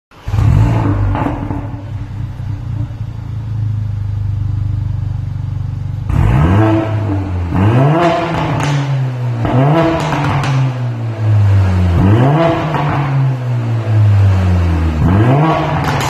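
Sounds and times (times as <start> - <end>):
car engine idling and revving: 0.1 - 16.0.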